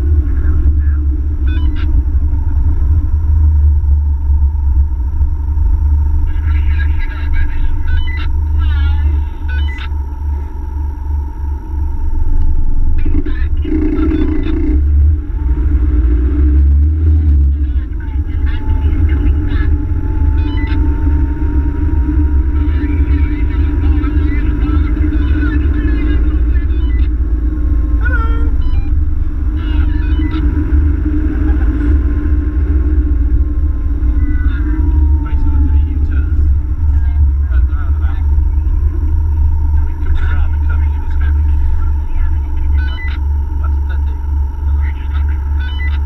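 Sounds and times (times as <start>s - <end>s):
engine and road noise rumble: 0.0s - 46.0s.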